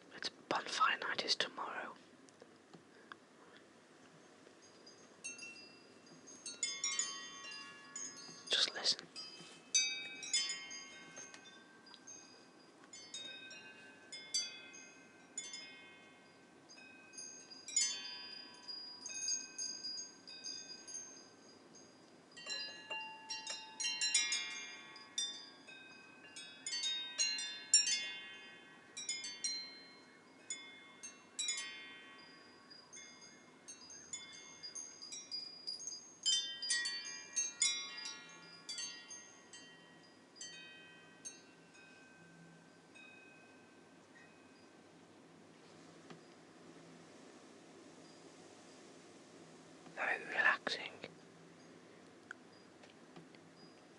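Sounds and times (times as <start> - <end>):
faint wind: 0.0 - 53.9
wind chimes ringing: 4.2 - 45.5, 47.9 - 48.8, 50.0 - 52.8, 53.4 - 53.9.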